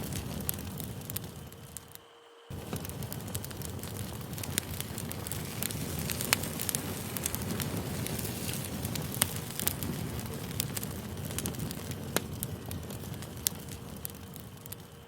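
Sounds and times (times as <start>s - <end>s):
burning wood crackling and popping: 0.0s - 15.0s
rumble of campfire flames: 0.0s - 15.0s.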